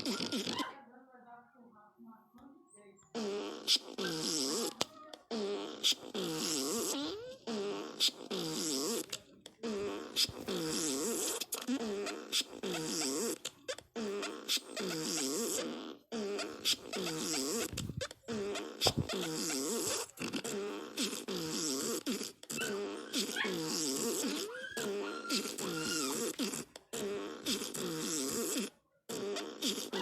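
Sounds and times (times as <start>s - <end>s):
fart sound effects: 0.0s - 0.6s, 3.2s - 30.0s.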